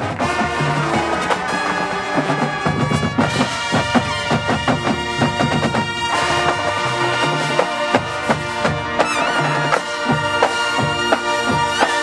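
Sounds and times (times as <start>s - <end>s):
brass chords: 0.0s - 12.0s
drumline strikes: 0.0s - 12.0s
marching band playing: 0.0s - 12.0s.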